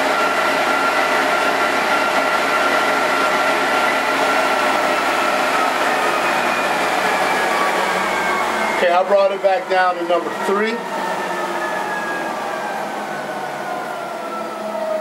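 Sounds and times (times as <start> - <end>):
treadmill motor whine: 0.0 - 15.0.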